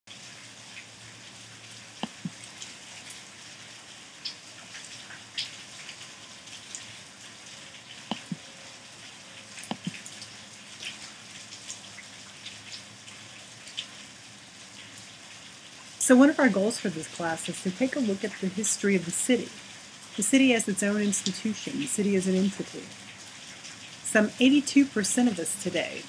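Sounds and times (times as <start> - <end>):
faint hiss with crackles: 0.1 - 26.0.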